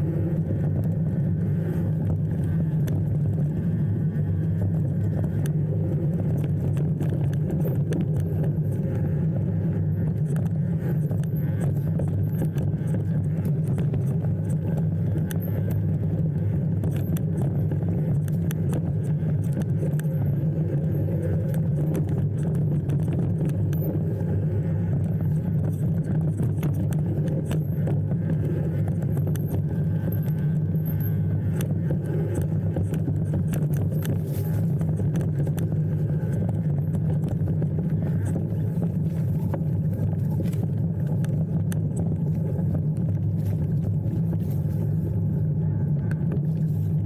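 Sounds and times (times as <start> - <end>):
small rattles and clicks: 0.0 - 47.0
vehicle running drone: 0.0 - 47.0.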